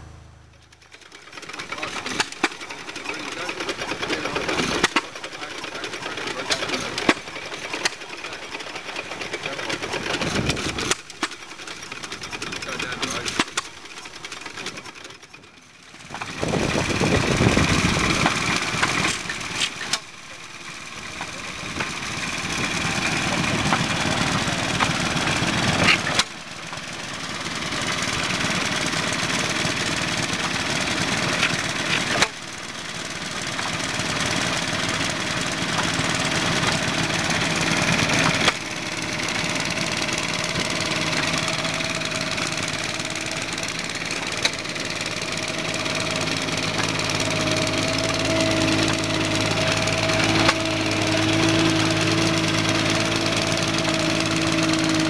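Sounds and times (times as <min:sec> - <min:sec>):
stationary engines clattering: 0:00.0 - 0:55.0.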